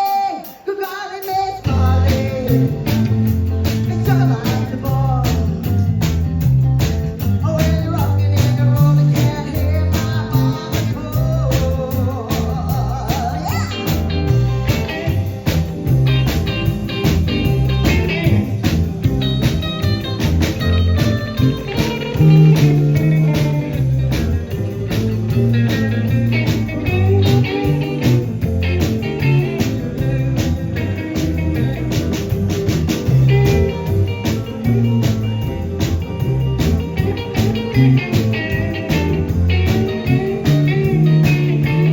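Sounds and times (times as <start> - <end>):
rock and roll band playing: 0.0 - 41.9.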